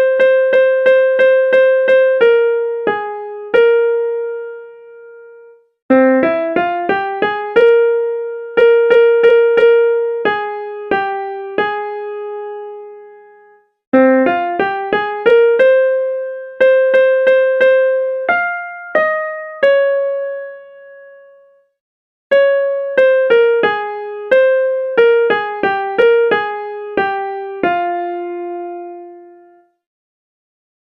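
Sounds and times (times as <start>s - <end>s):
slow keyboard melody: 0.0s - 29.8s.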